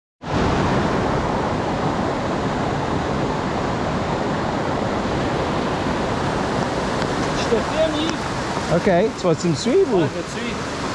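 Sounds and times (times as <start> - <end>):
rush of running water: 0.2 - 10.9.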